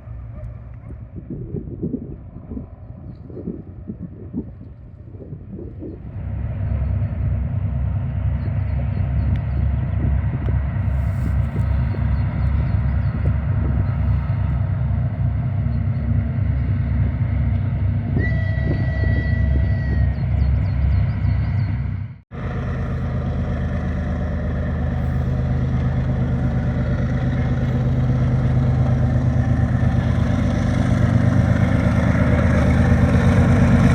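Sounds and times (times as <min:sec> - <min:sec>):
diesel locomotive engine throbbing: 0:00.0 - 0:33.9.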